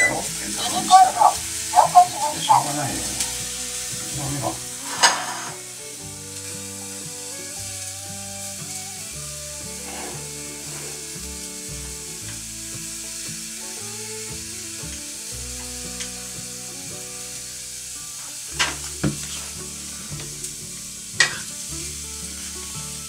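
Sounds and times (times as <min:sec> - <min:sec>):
soft background music: 0:00.0 - 0:23.0
steady hiss: 0:00.0 - 0:23.0.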